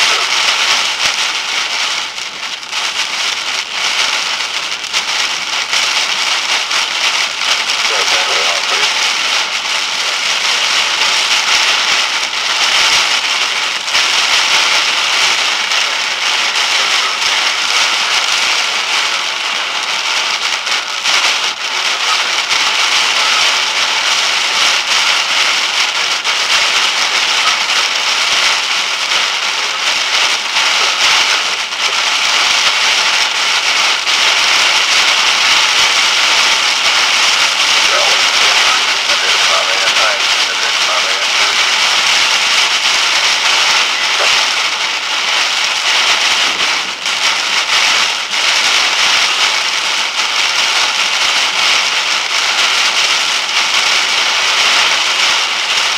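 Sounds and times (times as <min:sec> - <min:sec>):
rain pelting vehicle windshield: 0:00.0 - 0:55.9.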